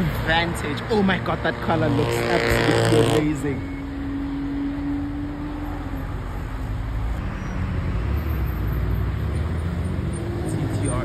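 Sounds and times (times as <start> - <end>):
car engines rumbling: 0.0 - 11.0.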